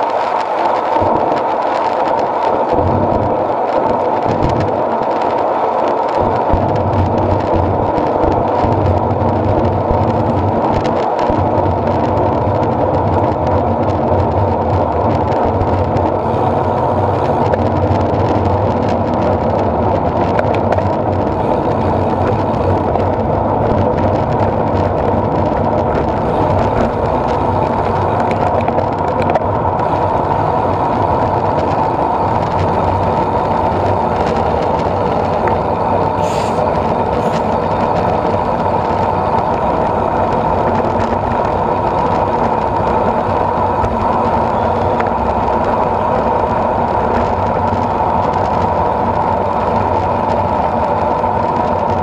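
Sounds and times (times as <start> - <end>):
bike tyre noise on asphalt: 0.0 - 52.0
wind rushing over microphone: 0.0 - 52.0.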